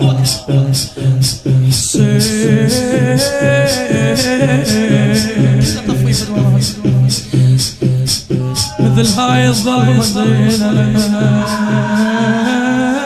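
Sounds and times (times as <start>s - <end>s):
man chanting wordlessly: 0.0s - 7.6s, 8.4s - 13.0s
steady percussion beat: 0.0s - 12.9s.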